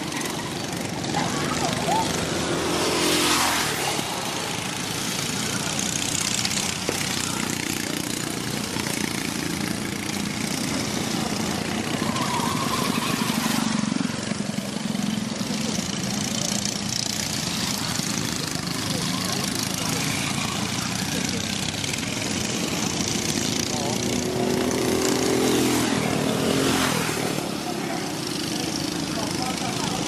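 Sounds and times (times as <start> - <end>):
go-kart engines buzzing: 0.0 - 30.0.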